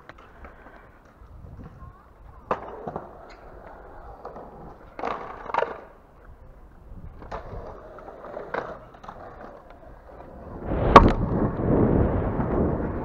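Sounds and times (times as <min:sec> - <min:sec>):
wheels rolling on concrete: 0:00.0 - 0:13.0.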